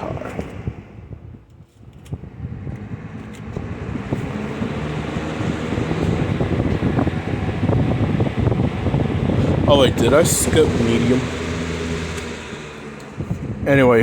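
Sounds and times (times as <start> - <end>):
fan motor and air rushing: 0.0 - 14.0.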